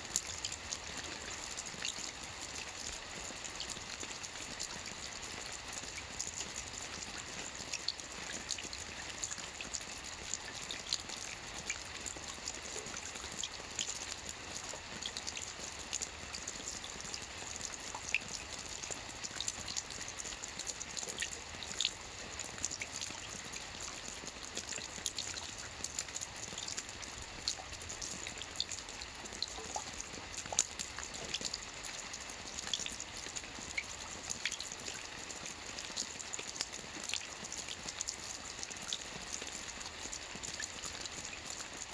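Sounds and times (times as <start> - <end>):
rain falling on a roof: 0.0 - 41.9.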